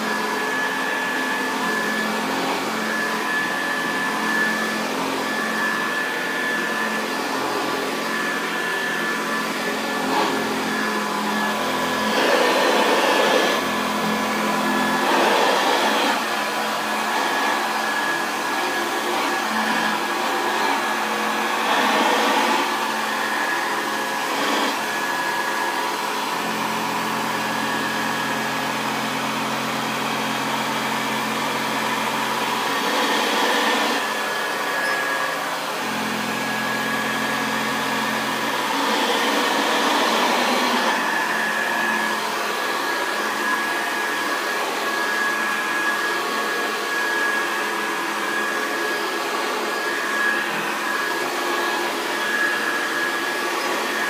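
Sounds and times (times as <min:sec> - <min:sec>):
vacuum cleaner on carpet: 0:00.0 - 0:54.0.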